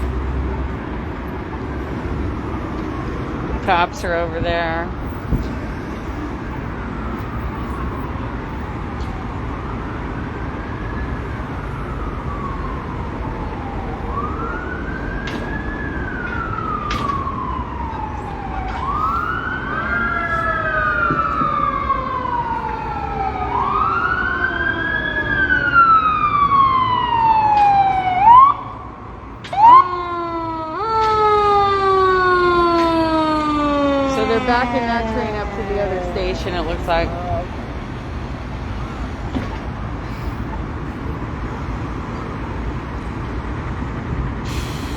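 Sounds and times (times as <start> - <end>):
emergency vehicle siren wailing: 0.0 - 44.9.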